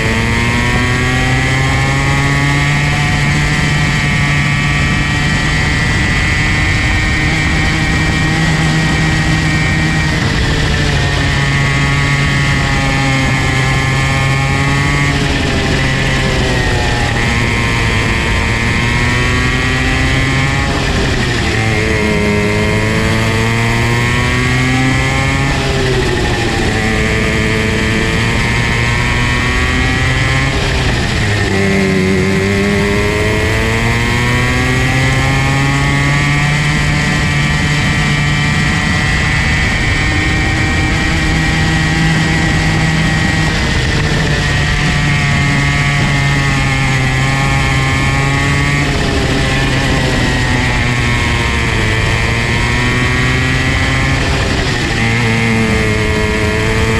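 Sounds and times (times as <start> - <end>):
kart engine revving: 0.0 - 56.9.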